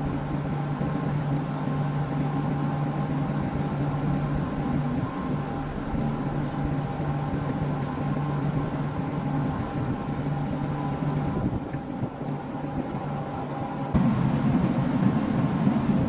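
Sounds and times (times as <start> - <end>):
condensing unit machine hum: 0.0 - 16.0.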